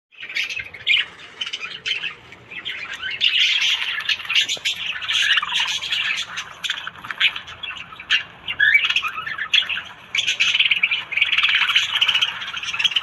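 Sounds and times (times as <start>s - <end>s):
budgerigars chattering: 0.2s - 13.0s.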